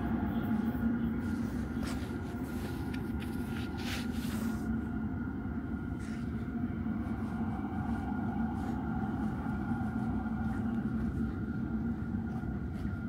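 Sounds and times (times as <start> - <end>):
faint steady tones: 0.0 - 13.0
low hum of metro platform: 0.0 - 13.0.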